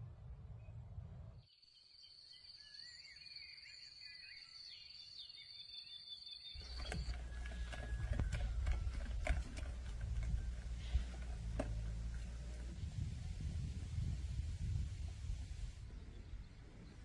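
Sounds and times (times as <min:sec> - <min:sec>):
birds chirping: 0:02.0 - 0:17.0.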